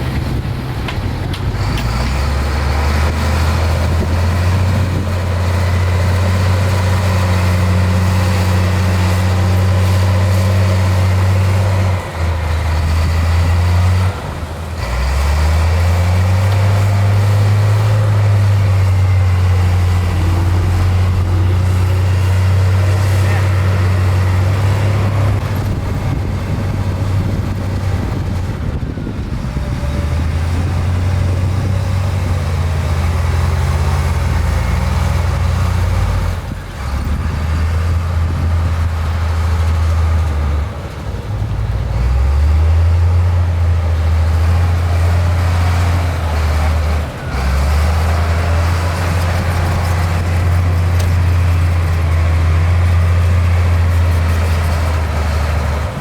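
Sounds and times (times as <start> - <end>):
heavy machinery diesel engine drone: 0.0 - 56.0.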